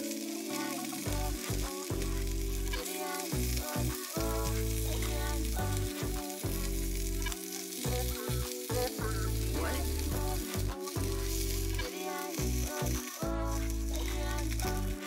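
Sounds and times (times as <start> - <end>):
fish sizzling in hot oil: 0.0 - 15.0
beat with bass notes: 1.1 - 15.0.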